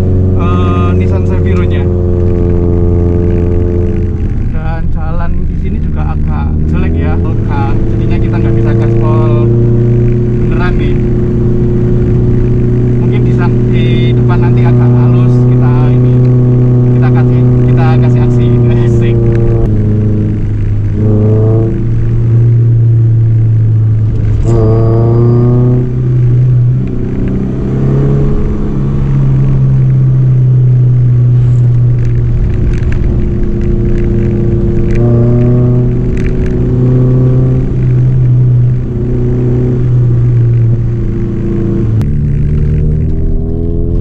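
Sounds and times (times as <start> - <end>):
car engine revving uphill: 0.0 - 44.0.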